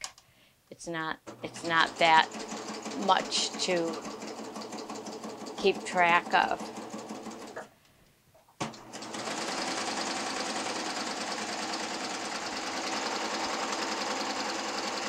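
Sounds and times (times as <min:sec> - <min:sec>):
serger machine stitching: 0:01.2 - 0:07.7, 0:08.6 - 0:15.0.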